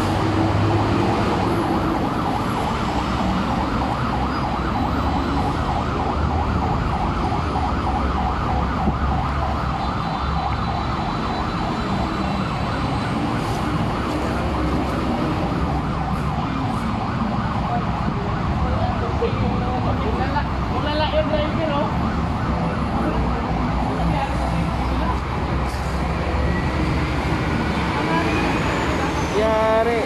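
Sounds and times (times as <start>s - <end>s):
vehicle engines rumbling: 0.0s - 30.0s
siren yelping: 0.7s - 25.2s.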